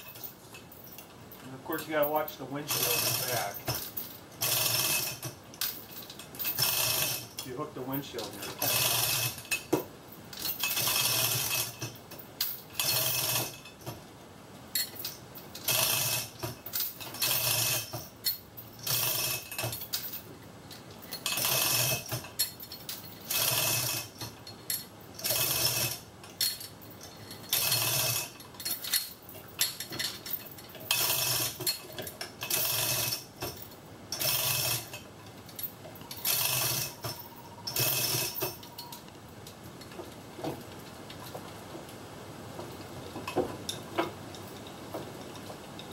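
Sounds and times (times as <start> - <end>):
chain rattling through hoist: 0.0 - 14.0, 14.7 - 39.1, 42.7 - 45.9.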